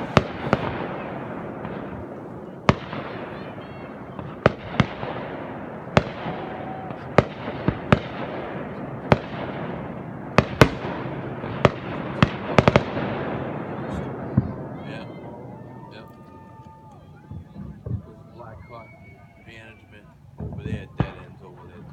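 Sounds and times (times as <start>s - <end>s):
fireworks exploding: 0.0s - 21.9s.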